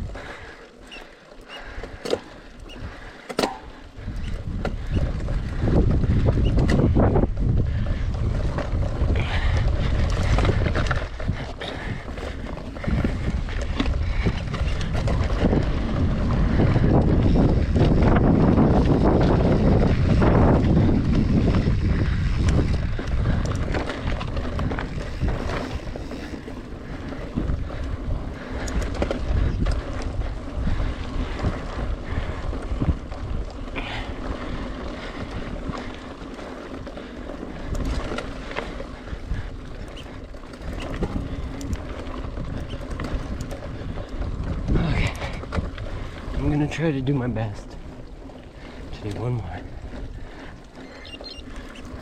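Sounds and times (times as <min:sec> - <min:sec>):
wind buffeting microphone: 0:00.0 - 0:00.6, 0:01.6 - 0:52.0.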